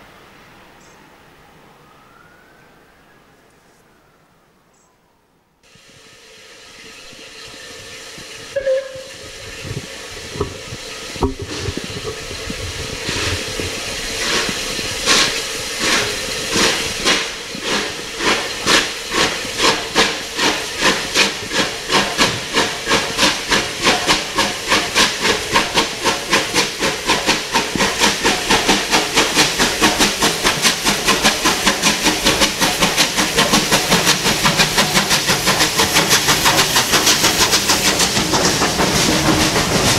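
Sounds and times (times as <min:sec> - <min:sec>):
steam hissing: 0:05.6 - 0:39.9
steam locomotive chimney beats: 0:05.6 - 0:39.9.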